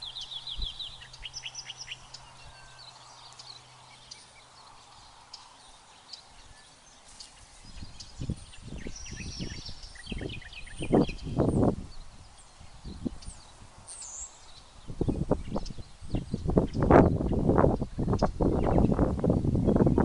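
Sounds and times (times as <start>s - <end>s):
wild birds chirping and trilling: 0.0s - 20.0s
wind buffeting microphone: 0.0s - 20.0s.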